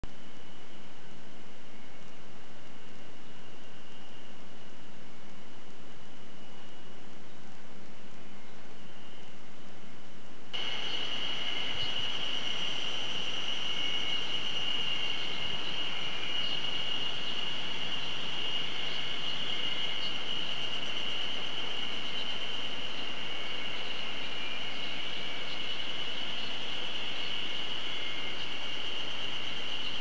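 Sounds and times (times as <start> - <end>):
insects trilling: 0.2 - 9.4, 10.6 - 30.0.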